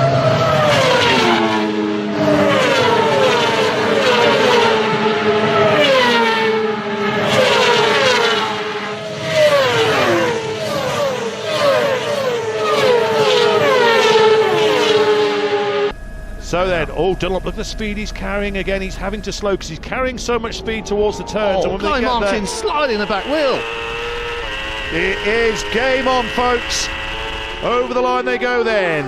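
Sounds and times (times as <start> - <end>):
superbike engines revving high: 0.0 - 29.0.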